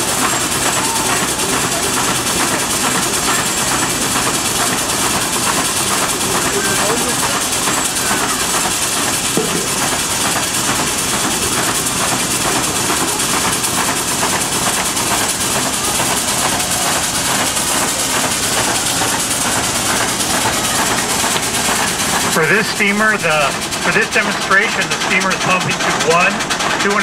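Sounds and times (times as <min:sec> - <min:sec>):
steam cylinders beating: 0:00.0 - 0:27.0
steam hissing: 0:00.0 - 0:27.0.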